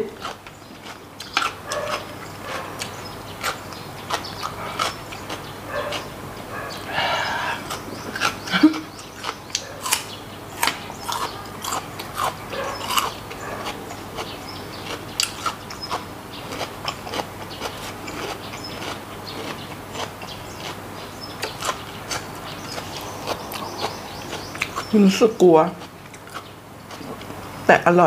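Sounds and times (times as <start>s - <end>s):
wet chewing with lip smacks: 0.2s - 6.7s, 7.6s - 27.5s.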